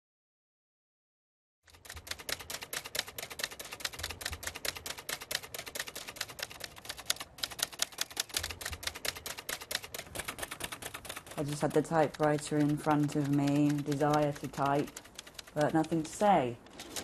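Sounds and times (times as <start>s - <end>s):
typewriter keys clacking: 1.7s - 17.0s.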